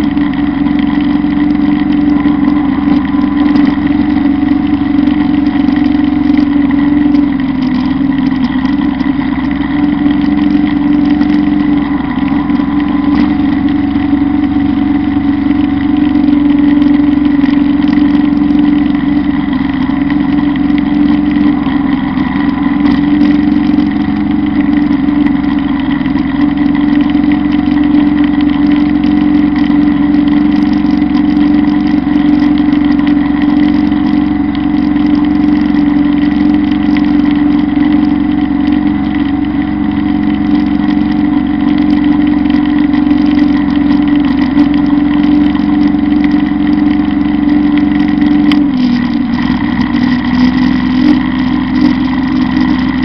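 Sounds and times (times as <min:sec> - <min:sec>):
thin steady whine: 0:00.0 - 0:53.0
tractor diesel engine under load: 0:00.0 - 0:53.0.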